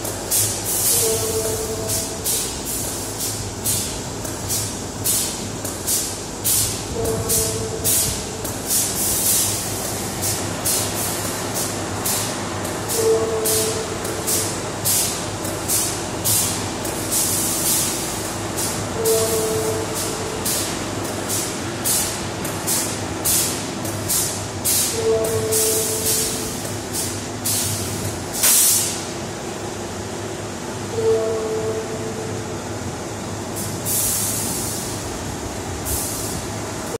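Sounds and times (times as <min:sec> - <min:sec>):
short sharp air hisses: 0:00.3 - 0:12.3, 0:12.9 - 0:29.1, 0:33.6 - 0:35.1, 0:35.8 - 0:36.4.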